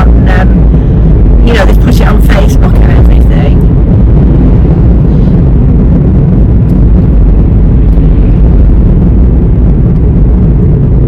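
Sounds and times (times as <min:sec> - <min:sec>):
car interior road and engine noise: 0:00.0 - 0:11.0.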